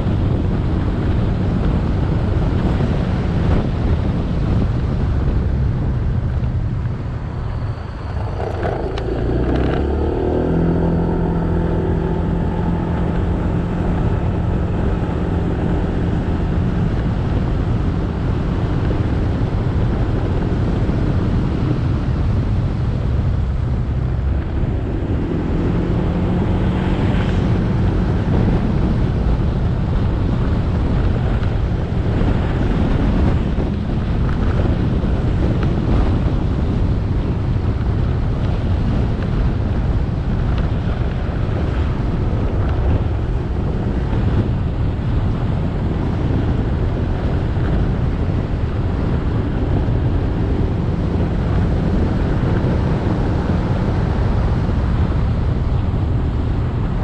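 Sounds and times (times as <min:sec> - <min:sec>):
motorbike engine running: 0:00.0 - 0:57.0
wind noise on microphone: 0:00.0 - 0:57.0.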